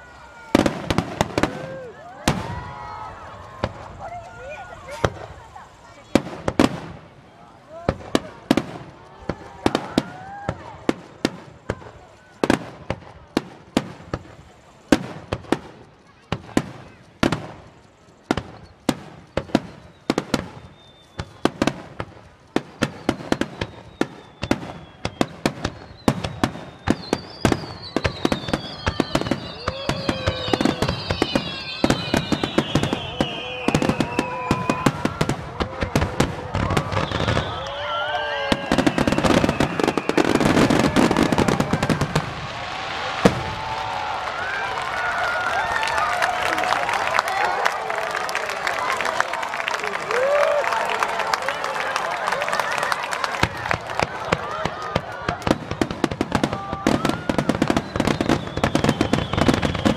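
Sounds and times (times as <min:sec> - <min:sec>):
crowd voices: 0:00.0 - 0:59.9
fireworks bursting: 0:00.0 - 0:59.9
whistling firework shells: 0:00.0 - 0:59.9.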